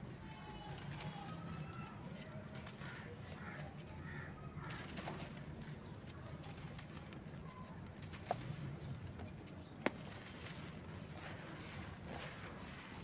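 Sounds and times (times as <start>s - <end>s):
dry powder crumbling through fingers: 0.0s - 13.0s.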